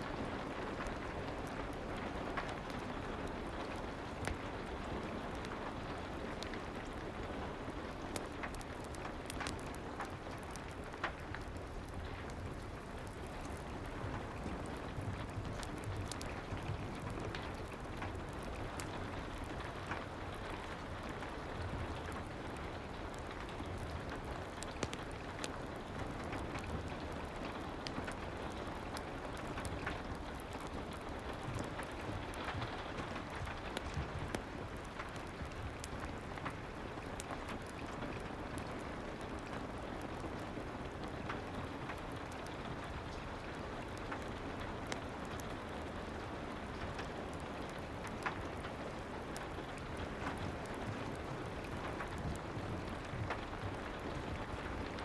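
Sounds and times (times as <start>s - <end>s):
fire crackles and pops: 0.0s - 55.0s
steady rain hiss: 0.0s - 55.0s.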